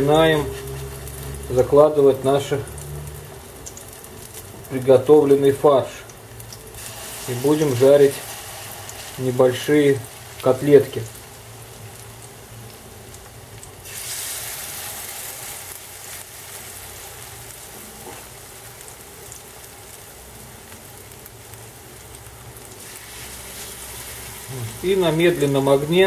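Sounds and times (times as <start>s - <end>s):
patties sizzling in hot oil: 0.0s - 26.0s.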